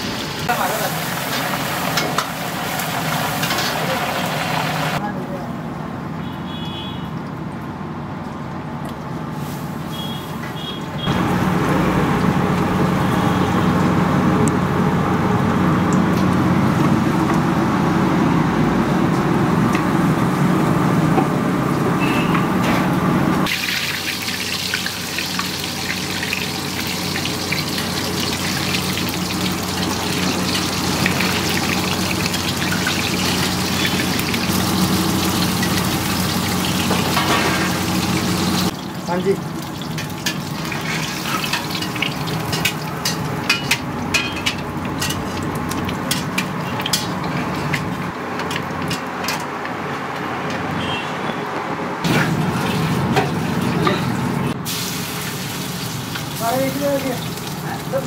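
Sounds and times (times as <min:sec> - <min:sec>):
chicken deep-frying in oil: 0:00.0 - 0:22.6, 0:23.4 - 0:50.0, 0:52.0 - 0:58.0.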